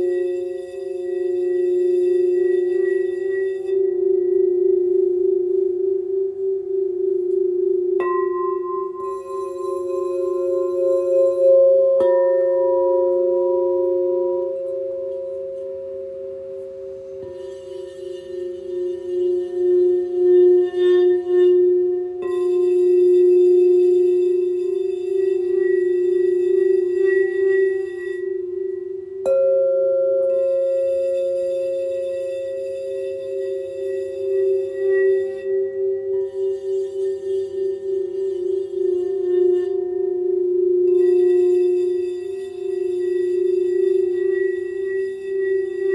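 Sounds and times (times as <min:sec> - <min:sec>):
crystal singing bowls ringing: 0:00.0 - 0:45.9.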